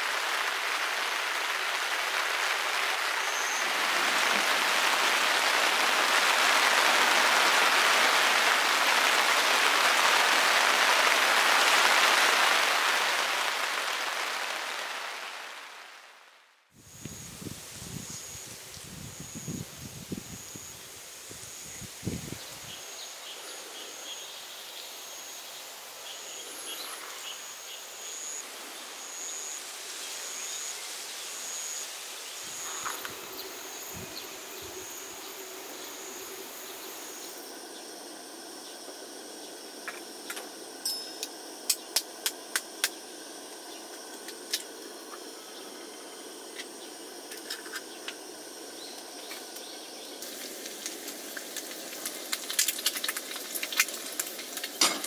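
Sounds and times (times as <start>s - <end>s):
insect chirping: 0.0s - 55.0s
outdoor hiss: 0.0s - 55.0s.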